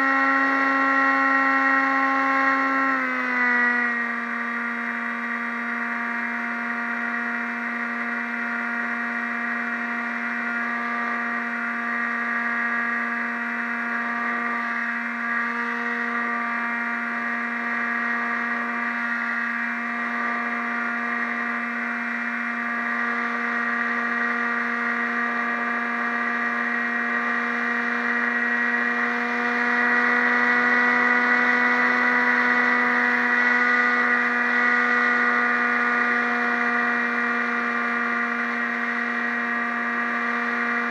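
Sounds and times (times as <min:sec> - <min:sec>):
model airplane motor droning: 0:00.0 - 0:40.9.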